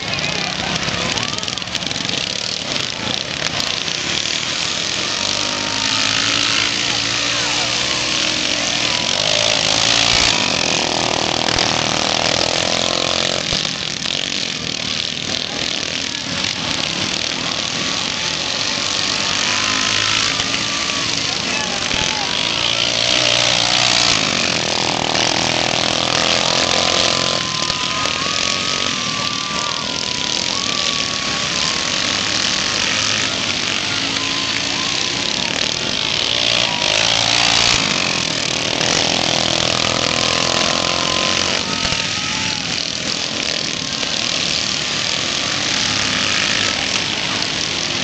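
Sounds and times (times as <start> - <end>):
racing lawn mower engines: 0.0 - 48.0.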